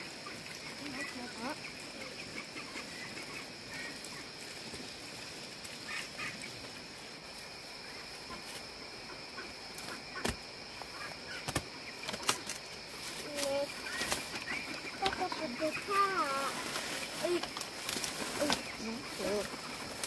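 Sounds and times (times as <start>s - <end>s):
chickens calling faintly: 0.0s - 4.5s, 5.7s - 20.0s.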